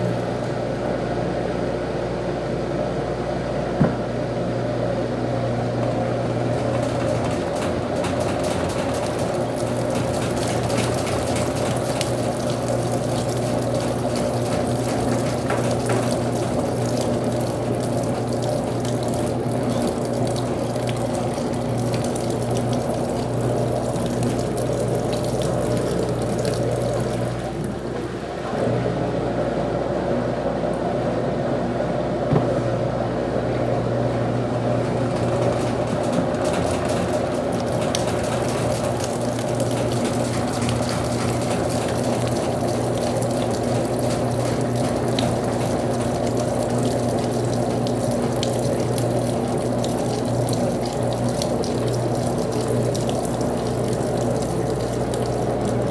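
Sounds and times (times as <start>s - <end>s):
water rushing in washing machine: 0.0s - 1.2s, 5.5s - 30.1s, 33.5s - 55.9s
mechanical hum: 0.0s - 55.9s.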